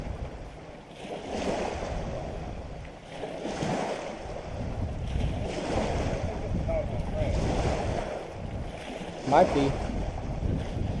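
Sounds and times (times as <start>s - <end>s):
water lapping: 0.0s - 11.0s
wind buffeting microphone: 0.0s - 11.0s.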